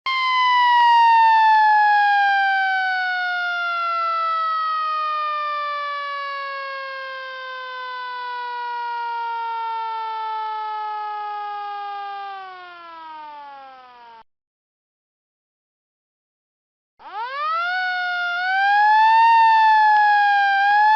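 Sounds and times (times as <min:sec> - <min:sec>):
siren winding down: 0:00.1 - 0:14.3, 0:17.0 - 0:20.9.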